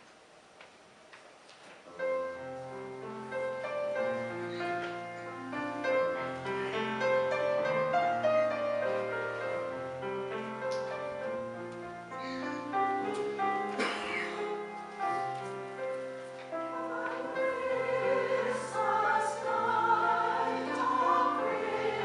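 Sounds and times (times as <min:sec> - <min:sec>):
slow piano chords: 0:01.9 - 0:22.0.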